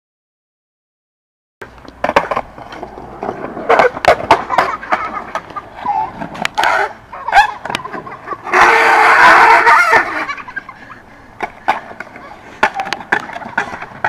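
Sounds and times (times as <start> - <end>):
skateboard clacks and knocks: 1.6 - 10.4, 11.4 - 14.0
skateboard wheels rolling on concrete: 1.6 - 14.0.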